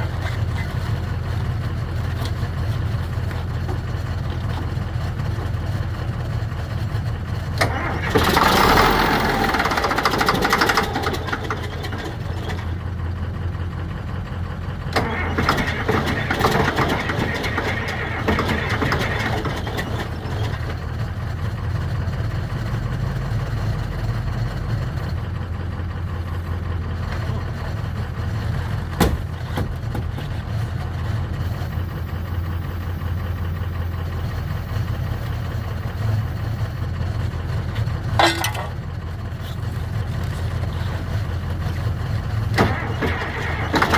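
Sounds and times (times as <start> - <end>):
engine running at low speed: 0.0 - 43.9.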